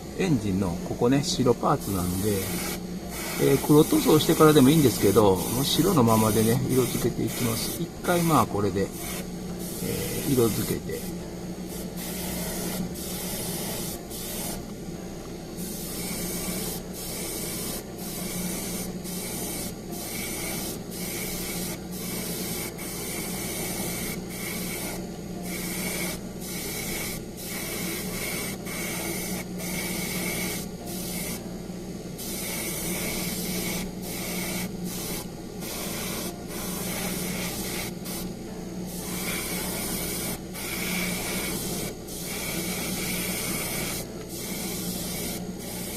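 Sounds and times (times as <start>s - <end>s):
airbrush spraying hiss: 0.0s - 14.7s, 15.5s - 31.4s, 32.1s - 45.9s
steady hum: 0.0s - 45.9s.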